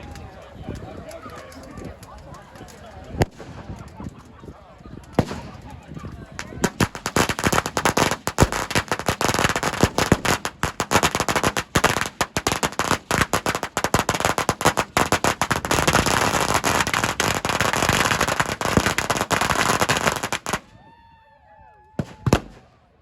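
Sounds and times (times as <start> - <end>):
fireworks crackling: 0.2 - 20.8, 22.0 - 22.7.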